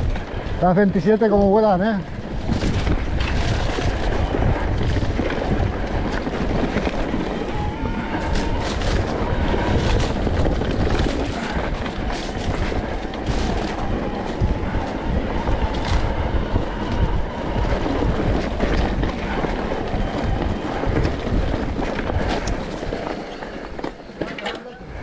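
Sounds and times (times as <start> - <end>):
wind buffeting microphone: 0.0 - 24.2.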